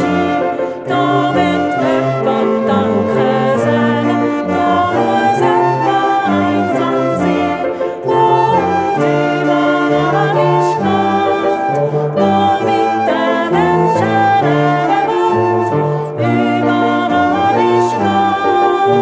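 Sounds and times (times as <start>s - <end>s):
children's band playing a melody: 0.0s - 19.0s.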